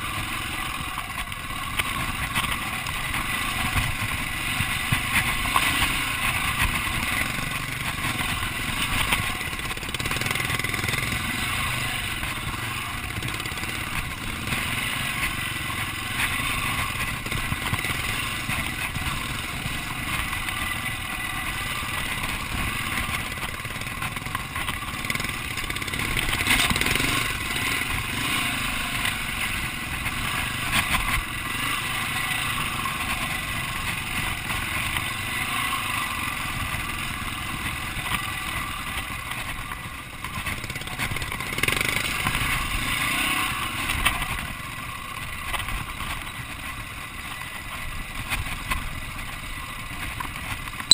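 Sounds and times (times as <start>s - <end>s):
dirt bike engine running: 0.0s - 50.9s.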